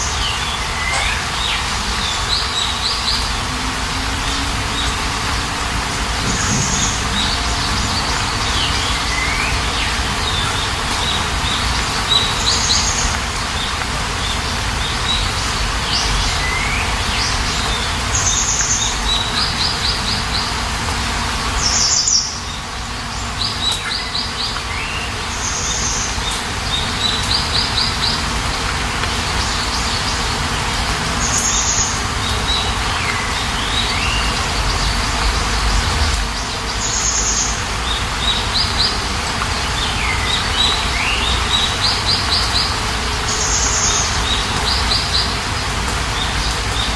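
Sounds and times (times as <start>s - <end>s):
rain hissing: 0.0s - 46.9s
songbirds chirping: 0.0s - 46.9s.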